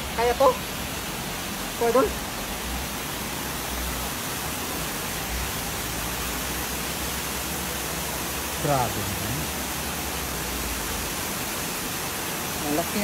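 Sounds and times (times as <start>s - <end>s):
water rushing through concrete channel: 0.0s - 13.0s.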